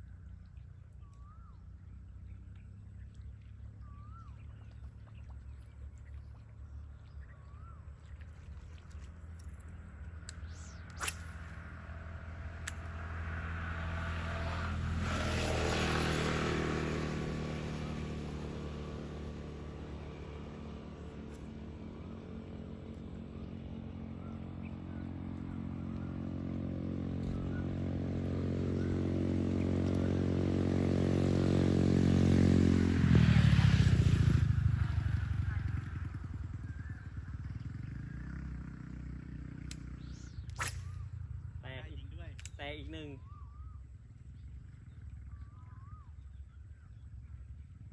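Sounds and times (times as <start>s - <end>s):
small engine running: 1.2s - 47.9s.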